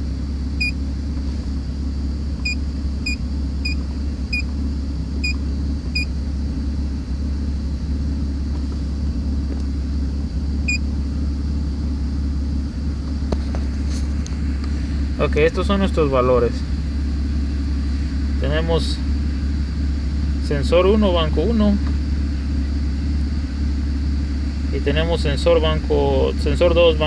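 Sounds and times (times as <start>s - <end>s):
car engine idling roughly: 0.0s - 27.0s.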